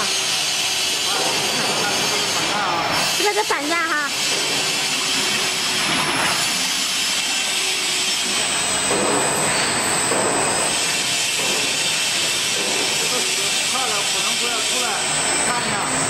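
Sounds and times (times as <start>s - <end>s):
mixer motors running: 0.0s - 16.0s
liquid churning and splashing: 0.1s - 16.0s.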